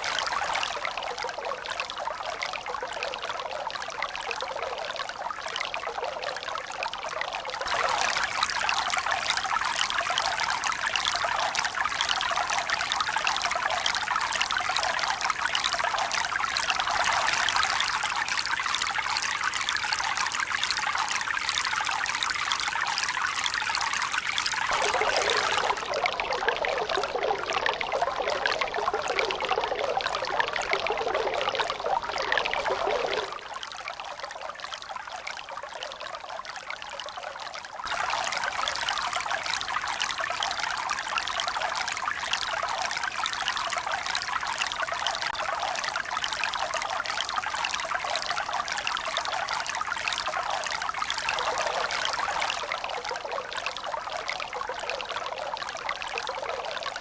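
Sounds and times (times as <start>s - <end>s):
running water trickling and pouring: 0.0s - 57.0s.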